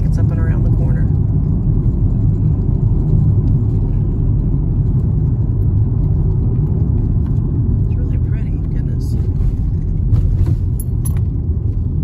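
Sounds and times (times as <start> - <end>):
car driving on paved road: 0.0 - 12.0.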